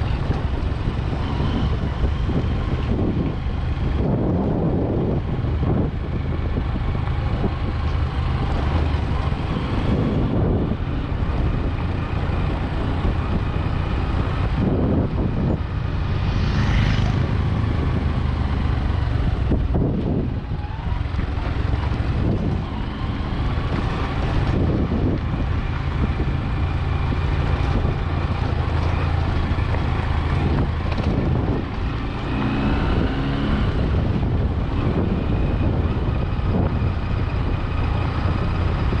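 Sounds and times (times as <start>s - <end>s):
road noise: 0.0s - 39.0s
vehicle engine running: 0.0s - 39.0s.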